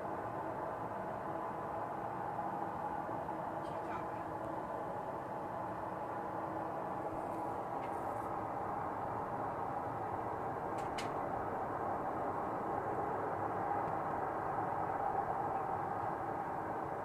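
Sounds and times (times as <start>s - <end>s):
steady droning hum: 0.0s - 17.0s.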